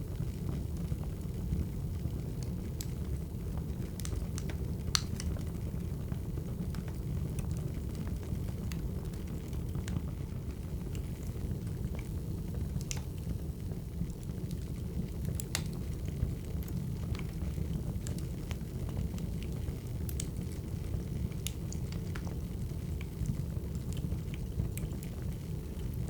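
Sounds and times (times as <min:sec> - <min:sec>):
firewood crackling: 0:00.1 - 0:26.0.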